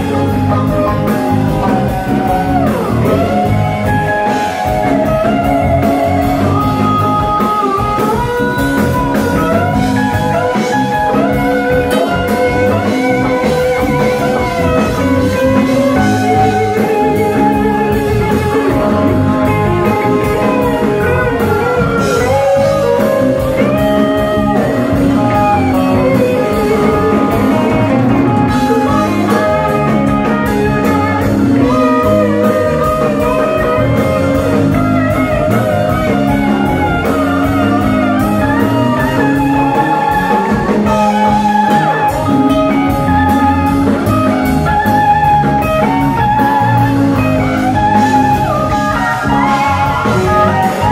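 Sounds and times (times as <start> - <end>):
rock band playing loudly: 0.0 - 50.9
sliding steel guitar: 0.0 - 50.9.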